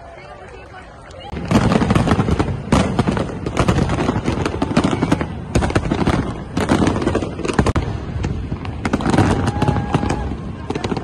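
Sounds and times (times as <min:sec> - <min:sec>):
fireworks bursting and crackling: 0:00.2 - 0:11.0.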